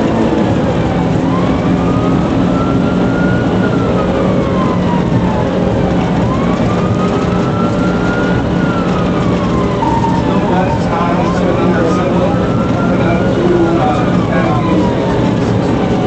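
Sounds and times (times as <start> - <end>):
car engine and road noise: 0.0 - 16.0
police siren wailing: 0.0 - 16.0.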